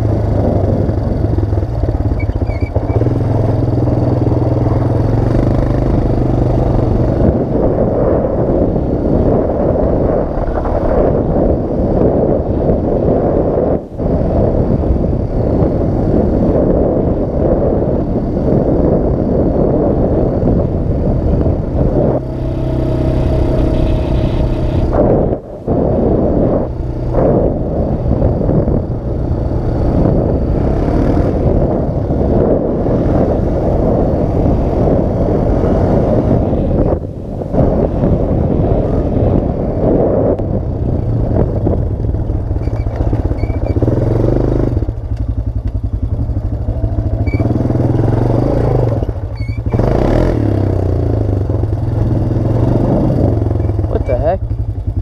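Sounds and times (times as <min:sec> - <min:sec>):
quad bike engine running: 0:00.0 - 0:55.0
wind rush on microphone: 0:00.0 - 0:55.0.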